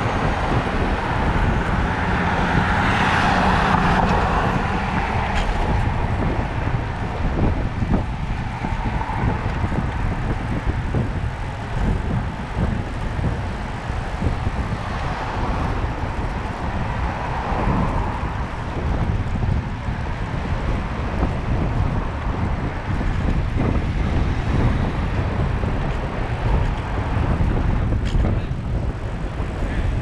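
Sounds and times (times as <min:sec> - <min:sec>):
city road traffic: 0:00.0 - 0:30.0
wind buffeting microphone: 0:00.0 - 0:30.0.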